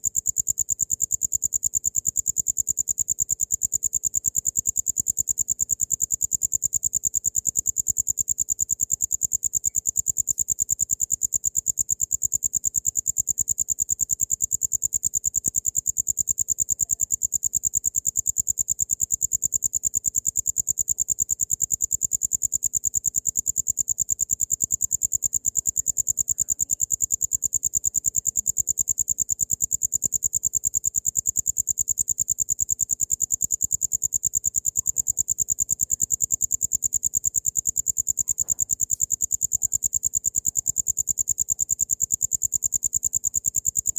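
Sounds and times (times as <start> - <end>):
cricket chirping: 0.0 - 43.9.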